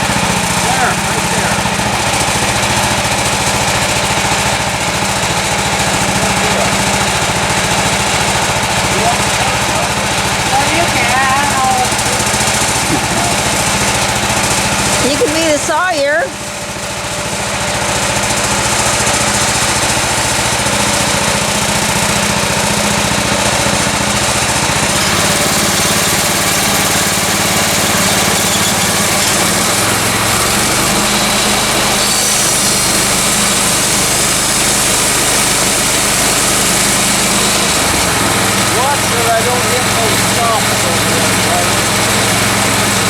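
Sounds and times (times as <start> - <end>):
sawmill engine sawing log: 0.0 - 43.0.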